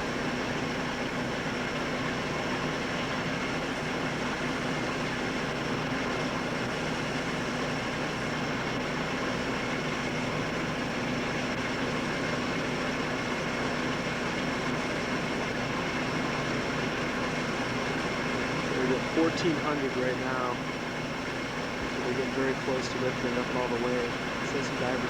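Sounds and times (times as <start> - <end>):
heavy machinery droning: 0.0 - 25.0.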